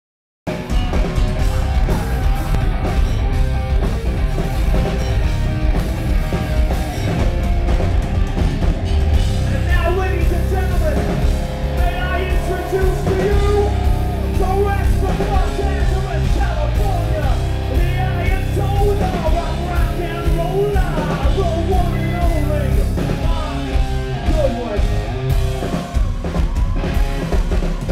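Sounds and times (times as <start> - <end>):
drums: 0.4 - 27.9
bass guitar: 0.5 - 27.9
electric guitar: 0.5 - 27.9.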